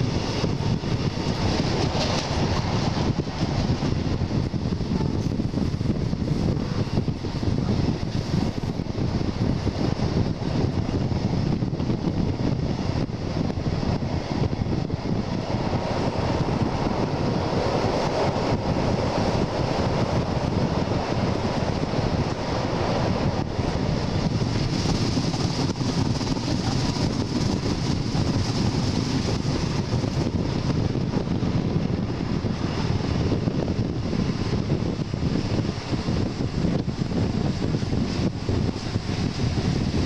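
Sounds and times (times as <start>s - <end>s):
train running noise: 0.0s - 40.0s
wind rushing over microphone: 0.0s - 40.0s.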